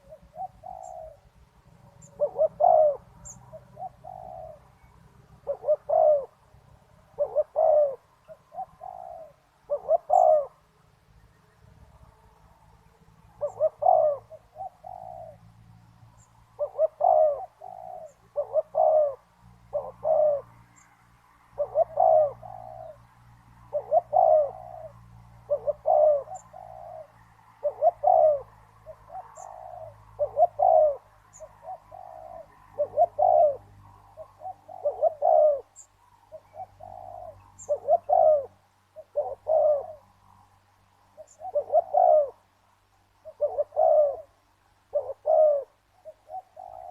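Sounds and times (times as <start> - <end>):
dove cooing: 0.0 - 10.7, 13.2 - 20.9, 21.5 - 40.5, 41.1 - 42.5, 43.1 - 46.9.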